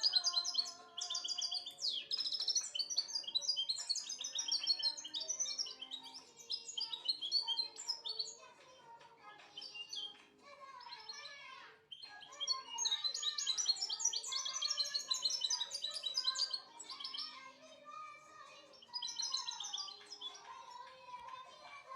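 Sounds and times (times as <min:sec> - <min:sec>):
goldfinch twittering song: 0:00.0 - 0:08.6, 0:09.4 - 0:11.3, 0:11.9 - 0:17.4, 0:18.5 - 0:20.9.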